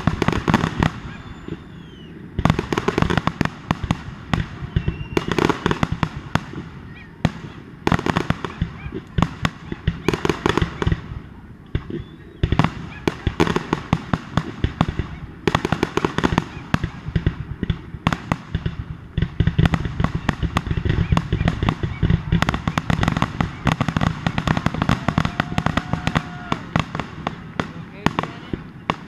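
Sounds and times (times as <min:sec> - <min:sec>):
firework bangs and crackling: 0:00.0 - 0:29.0.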